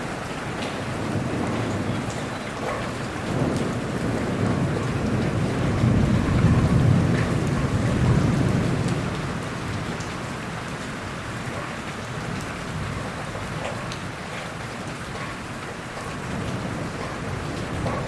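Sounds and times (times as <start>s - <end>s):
low rumble of thunder: 0.0s - 18.0s
rain drops: 0.0s - 18.0s
steady rain falling: 0.0s - 18.0s.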